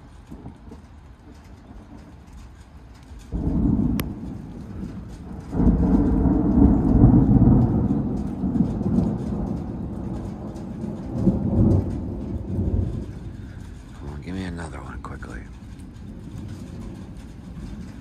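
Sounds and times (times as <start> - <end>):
rain falling: 0.0 - 18.0
thunder clap and rumble: 0.0 - 18.0.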